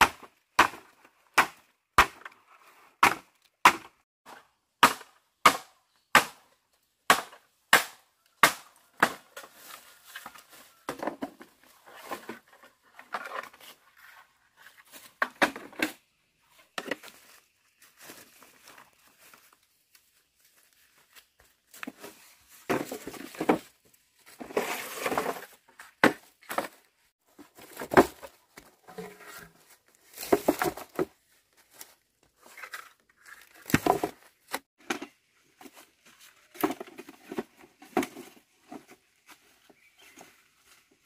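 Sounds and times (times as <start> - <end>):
bamboo poles knocking and scraping: 0.0 - 41.0.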